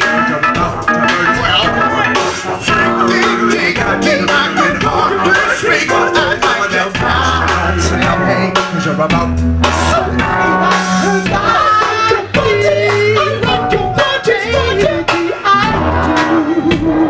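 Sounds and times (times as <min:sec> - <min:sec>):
drums steady beat: 0:00.0 - 0:17.0
person singing: 0:00.0 - 0:17.0
bass guitar low notes: 0:00.5 - 0:17.0.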